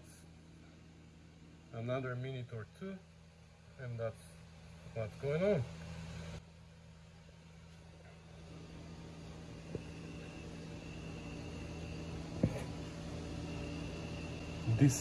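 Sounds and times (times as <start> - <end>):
mechanical hum with high whine: 0.0 - 15.0.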